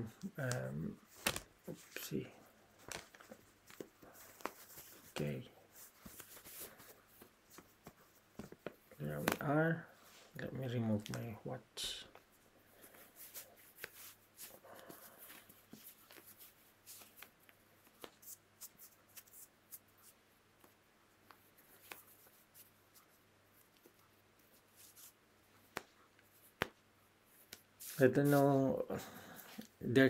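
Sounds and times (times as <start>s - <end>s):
soft fabric rustling: 0.0s - 30.0s.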